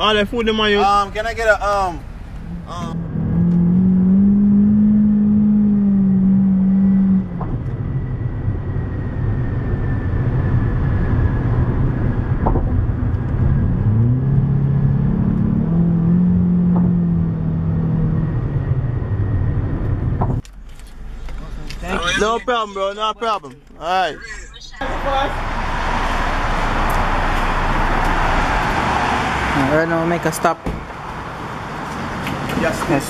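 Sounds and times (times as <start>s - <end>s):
car engine droning: 0.0s - 33.0s
road rumble: 0.0s - 33.0s.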